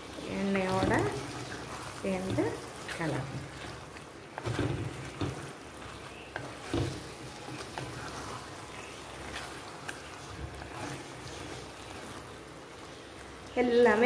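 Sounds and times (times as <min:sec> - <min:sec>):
oil sizzling: 0:00.0 - 0:14.0
wooden spatula scraping pot: 0:00.0 - 0:14.0.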